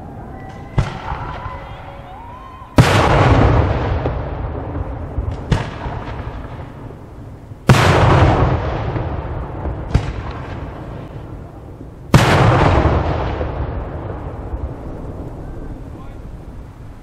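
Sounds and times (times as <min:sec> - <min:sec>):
sharp firework bangs: 0:00.5 - 0:16.5
firework shells booming: 0:00.5 - 0:16.6.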